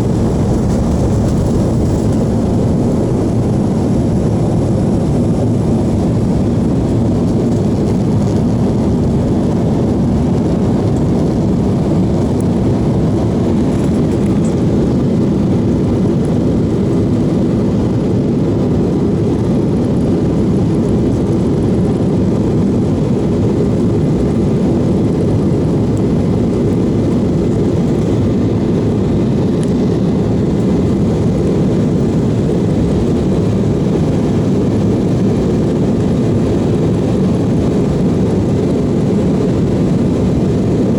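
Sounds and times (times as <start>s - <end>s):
aircraft cabin engine rush: 0.0s - 40.9s.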